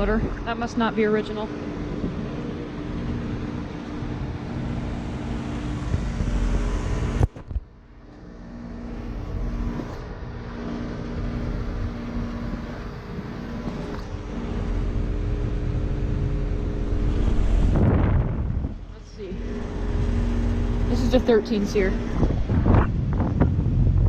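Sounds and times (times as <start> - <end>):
compressor humming: 0.0 - 24.0
fan rushing air: 0.0 - 24.0.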